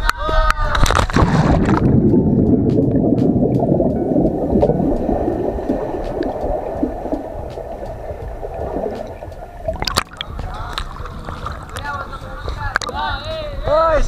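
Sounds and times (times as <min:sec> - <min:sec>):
muffled underwater river bubbling: 0:01.2 - 0:13.1.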